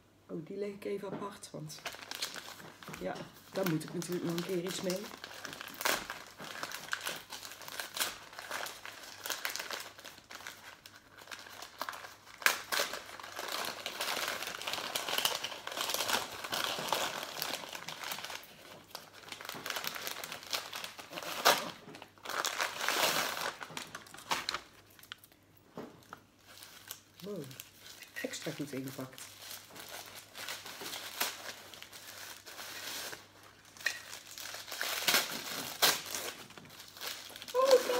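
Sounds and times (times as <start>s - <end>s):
wrapping paper crinkling: 1.7s - 37.9s.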